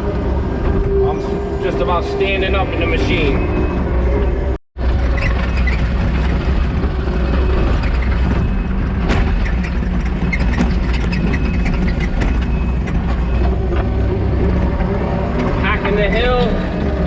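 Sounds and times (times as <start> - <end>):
diesel engine under load: 0.0 - 17.0
tracks and loader clanking: 0.0 - 17.0.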